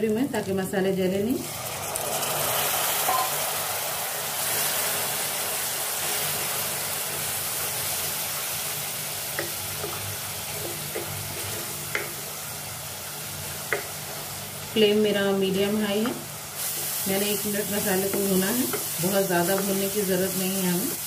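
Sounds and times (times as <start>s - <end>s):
spices sizzling in oil: 0.0s - 21.0s.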